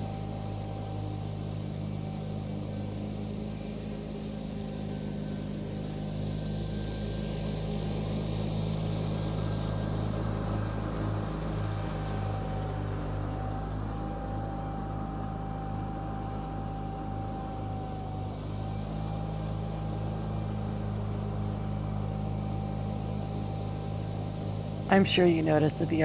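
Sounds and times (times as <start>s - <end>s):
faint high whine: 0.0s - 26.0s
lawn tractor engine running: 0.0s - 26.0s.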